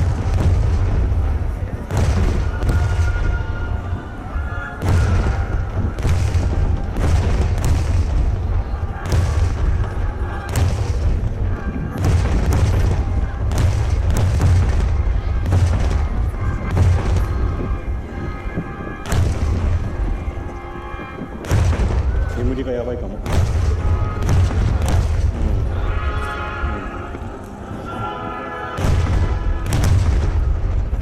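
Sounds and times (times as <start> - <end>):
fireworks booming: 0.0 - 31.0
fireworks crackling: 0.0 - 31.0.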